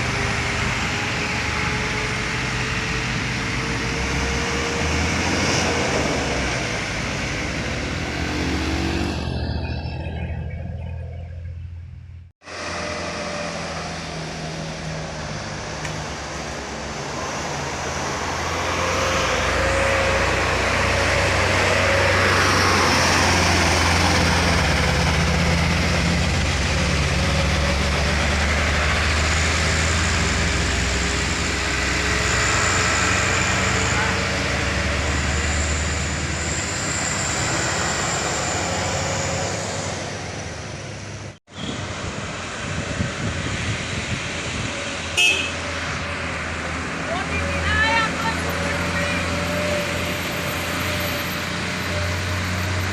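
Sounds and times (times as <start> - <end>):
road traffic: 0.0 - 52.9
truck diesel engine under load: 0.0 - 52.9.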